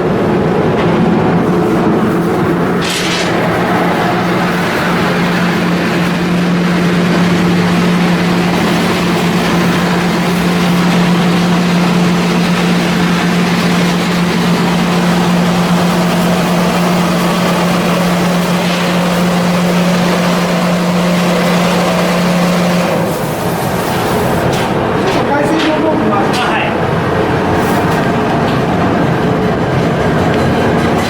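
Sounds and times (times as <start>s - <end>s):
engine humming steadily: 0.0s - 25.1s.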